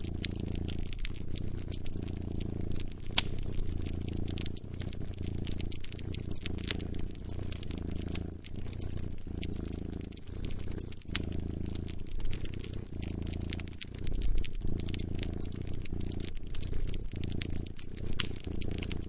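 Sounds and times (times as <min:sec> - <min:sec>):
cat purring: 0:00.0 - 0:19.0
wood fire crackling: 0:00.0 - 0:19.0.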